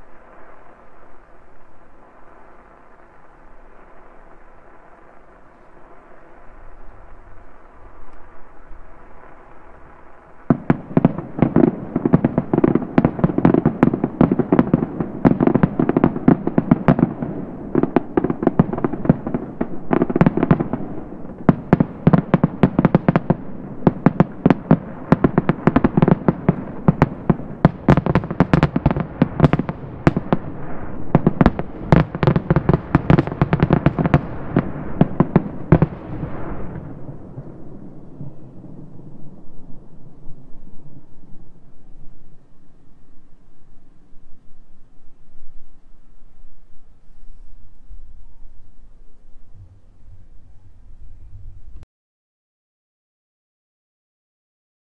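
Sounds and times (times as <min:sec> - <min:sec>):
distant fireworks barrage: 0:00.0 - 0:51.8.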